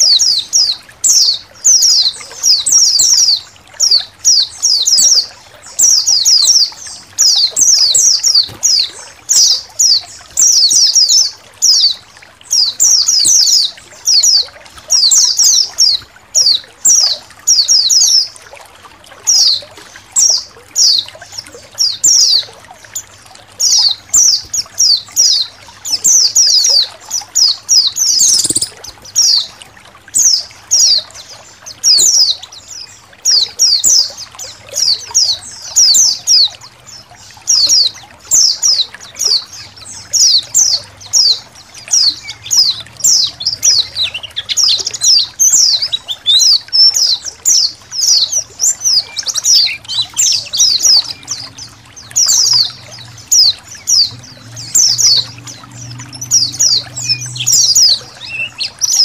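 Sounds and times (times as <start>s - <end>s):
faint trickle of water: 0.0s - 59.0s
small birds chirping: 0.0s - 59.0s.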